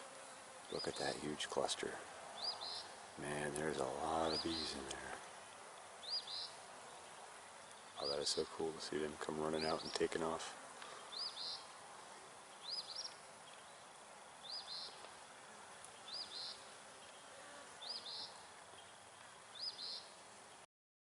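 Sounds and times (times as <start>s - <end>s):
faint steady hiss: 0.0s - 20.7s.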